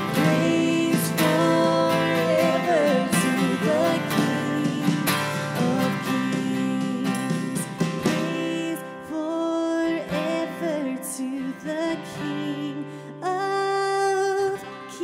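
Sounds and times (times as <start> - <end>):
acoustic guitar: 0.0 - 15.0
woman singing slow melody: 0.0 - 15.0.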